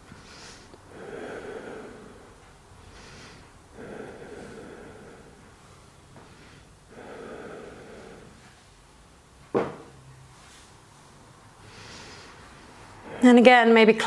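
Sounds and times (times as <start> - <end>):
woman breathing slowly: 0.0 - 9.2, 10.3 - 13.4.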